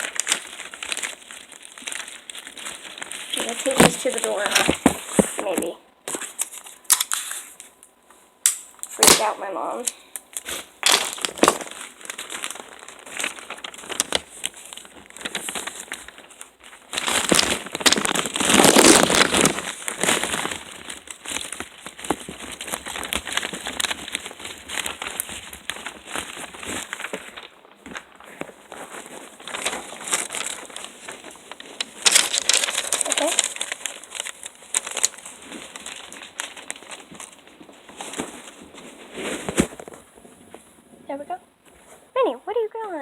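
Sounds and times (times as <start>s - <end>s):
crinkling rustling handling noise: 0.0s - 43.0s.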